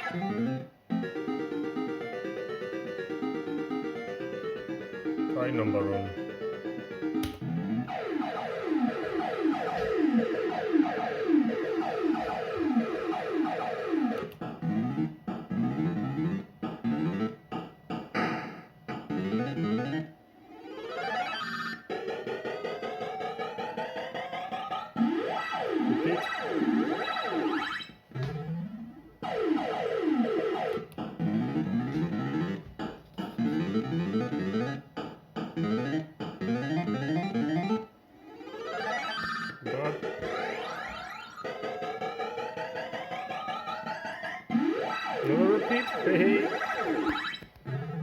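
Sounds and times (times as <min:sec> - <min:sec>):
fruit machine electronic sound effects: 0:00.0 - 0:21.9, 0:23.5 - 0:48.0.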